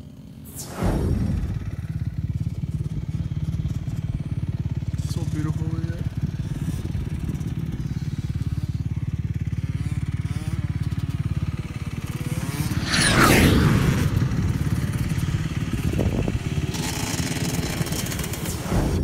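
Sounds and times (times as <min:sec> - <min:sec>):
dirt bike revving: 0:00.0 - 0:19.0
dirt bike engine idling: 0:01.2 - 0:19.0.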